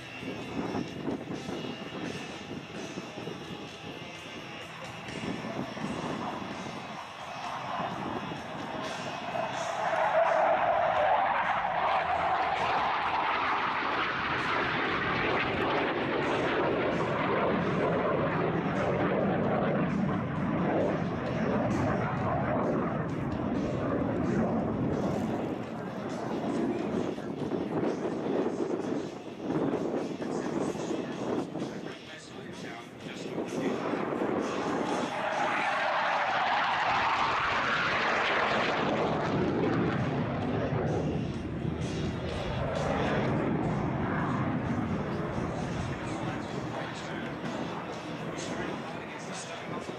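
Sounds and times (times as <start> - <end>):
jet flying away: 0.0 - 49.9.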